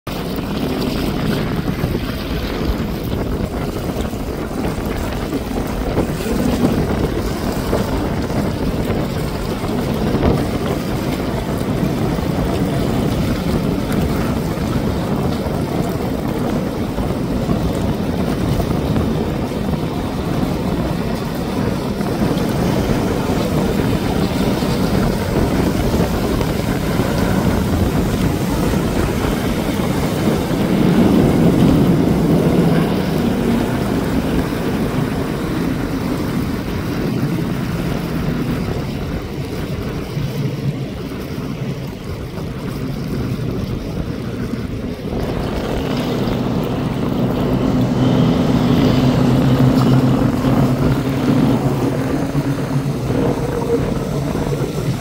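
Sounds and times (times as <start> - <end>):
jet skis running: 0.0 - 55.0
wind rumble on microphone: 0.0 - 55.0
breaking surf: 0.1 - 55.0.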